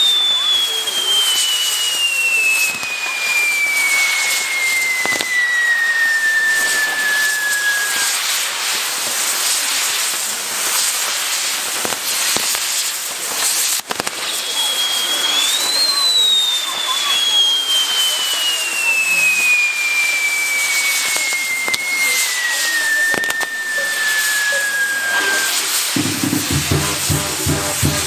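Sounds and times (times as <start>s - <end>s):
firework whistle falling in pitch: 0.0s - 8.9s, 13.9s - 28.0s
firework sharp cracks: 0.0s - 28.0s
firework wheels hissing and crackling: 0.0s - 28.0s.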